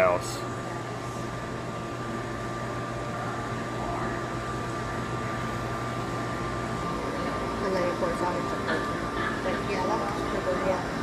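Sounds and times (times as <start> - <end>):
indoor machinery hum and hiss: 0.0 - 11.0.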